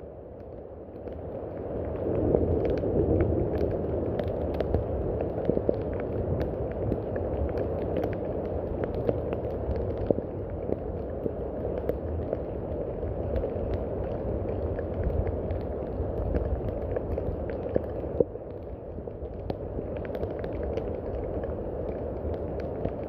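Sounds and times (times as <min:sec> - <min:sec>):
raindrop ticks: 0:00.0 - 0:23.0.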